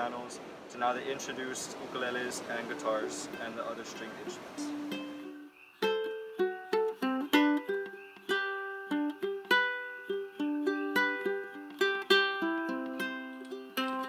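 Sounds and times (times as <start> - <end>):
ukulele melody: 2.6 - 14.0.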